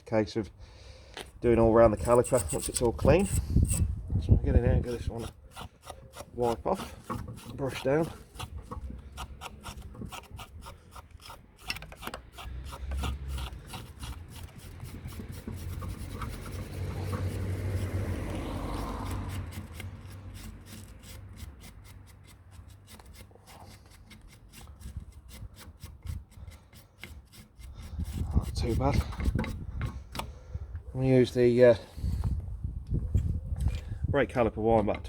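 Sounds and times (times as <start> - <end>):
wire brush scrubbing metal: 1.5 - 29.6.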